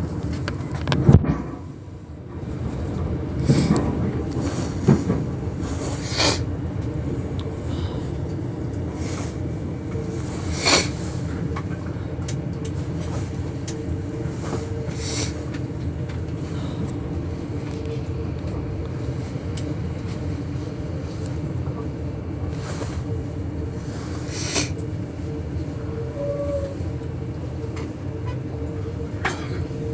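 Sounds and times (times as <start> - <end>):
train interior rumble: 0.0 - 29.9.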